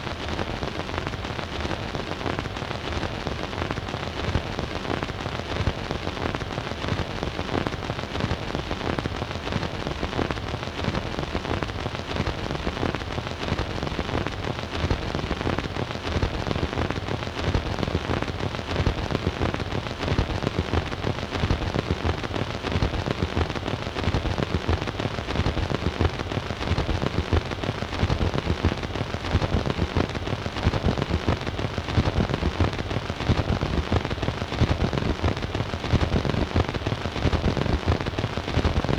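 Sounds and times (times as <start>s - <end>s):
record hiss: 0.0s - 38.9s
record surface crackle: 0.0s - 38.9s.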